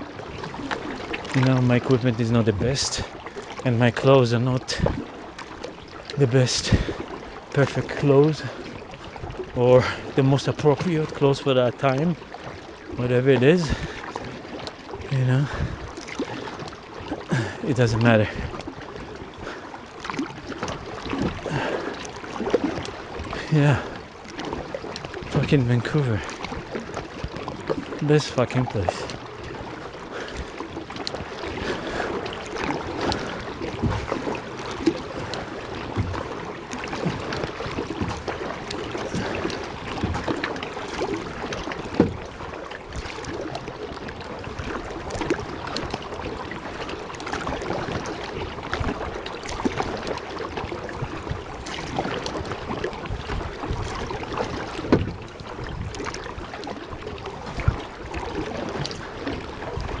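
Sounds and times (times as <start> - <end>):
paddle splashing in water: 0.0 - 60.0
water wash: 0.0 - 60.0.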